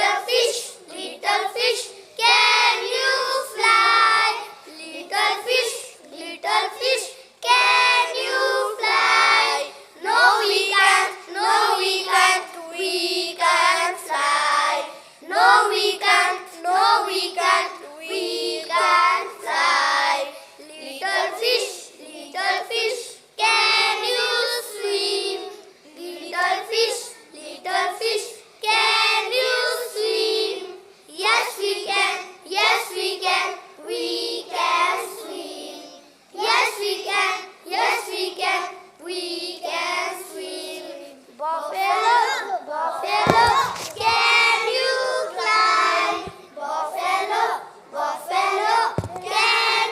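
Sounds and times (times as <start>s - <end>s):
children reciting in unison: 0.0s - 49.9s.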